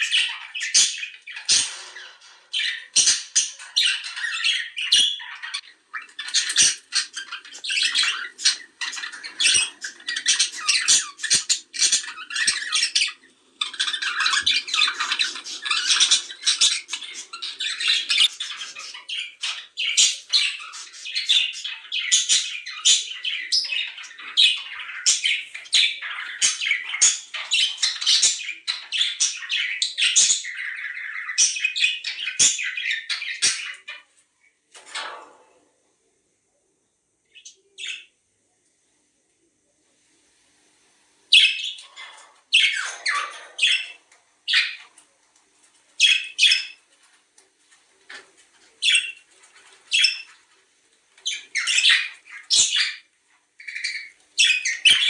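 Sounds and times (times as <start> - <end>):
budgerigars chattering: 0.0 - 34.1, 41.3 - 45.0, 46.0 - 46.9, 48.0 - 49.3, 49.9 - 50.4, 51.2 - 55.0.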